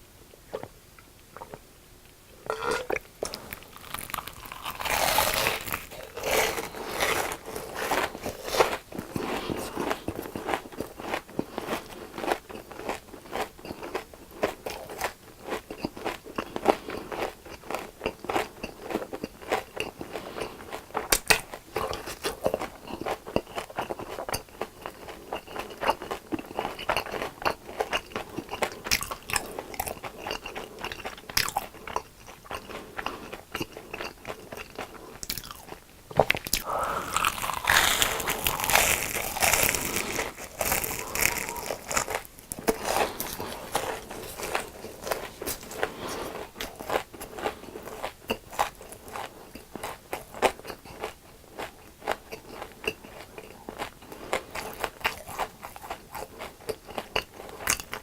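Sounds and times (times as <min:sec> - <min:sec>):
crunchy food chewing: 0:02.5 - 0:58.0.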